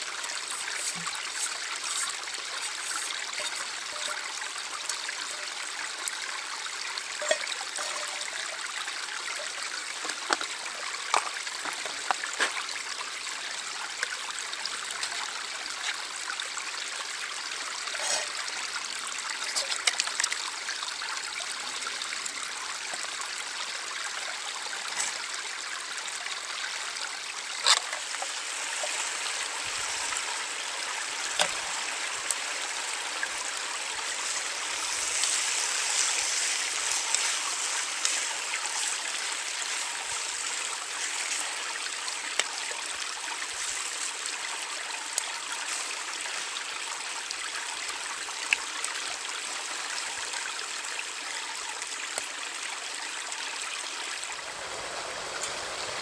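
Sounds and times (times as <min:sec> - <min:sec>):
creek babbling: 0:00.0 - 0:56.0.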